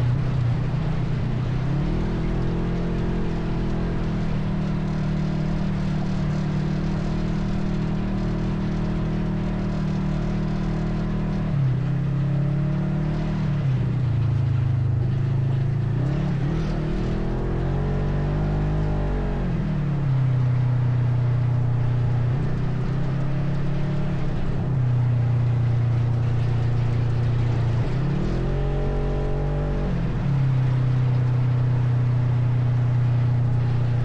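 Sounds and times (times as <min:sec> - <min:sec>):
atv engine running: 0:00.0 - 0:34.0.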